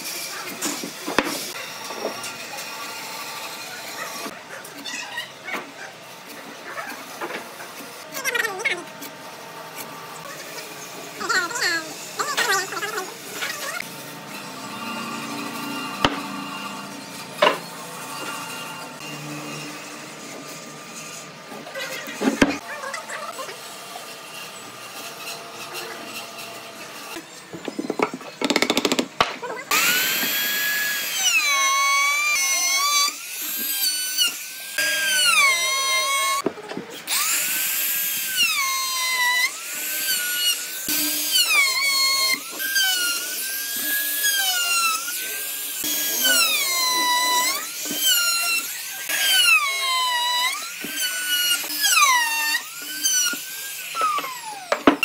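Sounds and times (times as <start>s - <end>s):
trim router whining: 0.0s - 55.0s.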